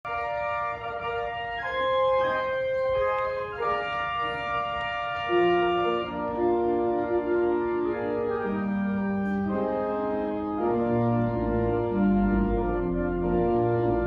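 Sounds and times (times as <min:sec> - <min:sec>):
organ bass line: 0:00.1 - 0:14.0
organ playing slow chords: 0:00.1 - 0:14.0.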